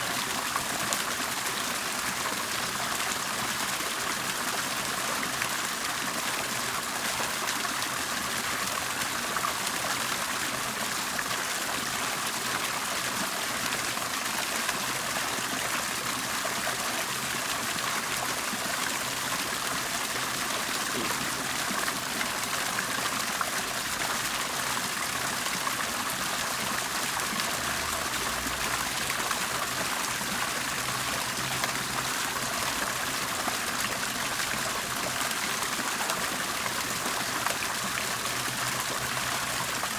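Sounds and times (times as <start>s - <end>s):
water bubbling and trickling: 0.2s - 39.9s.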